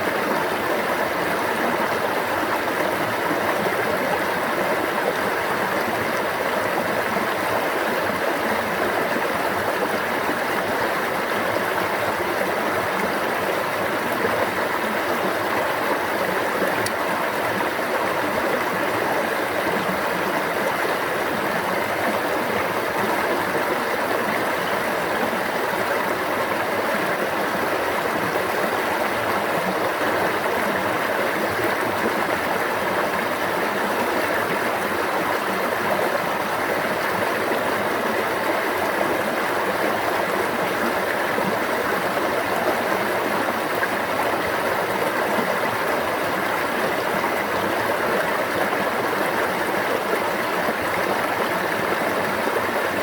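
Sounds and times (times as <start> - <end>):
stream babbling: 0.0 - 53.0.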